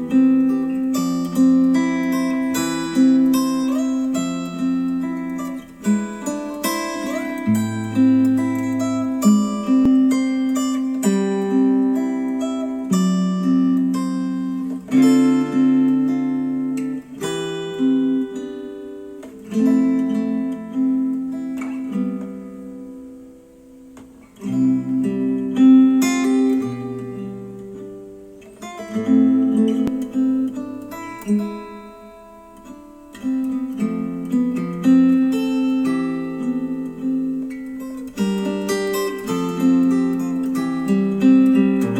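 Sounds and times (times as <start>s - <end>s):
acoustic guitar music: 0.0s - 41.9s.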